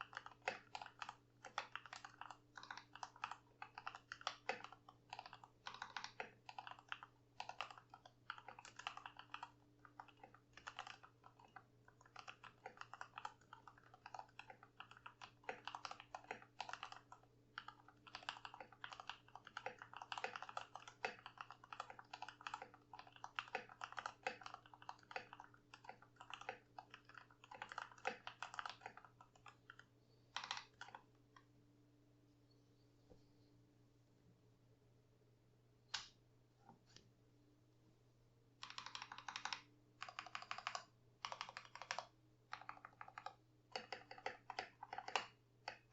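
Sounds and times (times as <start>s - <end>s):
mechanical keyboard typing: 0.0s - 31.1s, 38.6s - 45.9s.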